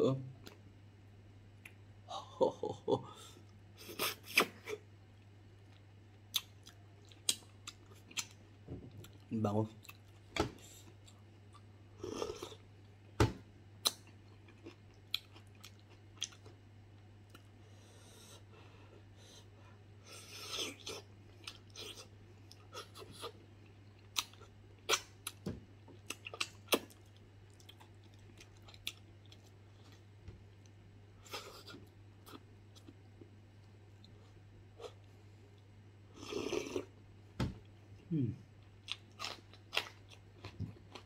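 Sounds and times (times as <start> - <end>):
faint low hum: 0.0 - 41.0
man chewing and smacking lips: 3.5 - 13.0, 13.8 - 18.5, 20.1 - 37.0, 38.6 - 41.0.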